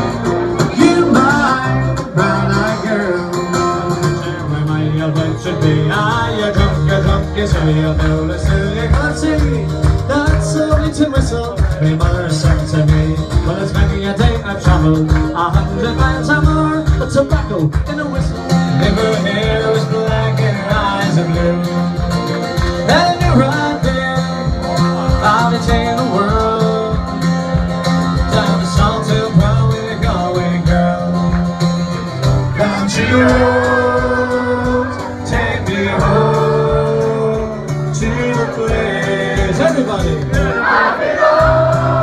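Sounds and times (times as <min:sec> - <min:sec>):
man singing country song: 0:00.0 - 0:42.0
strummed guitar with beat: 0:00.0 - 0:42.0.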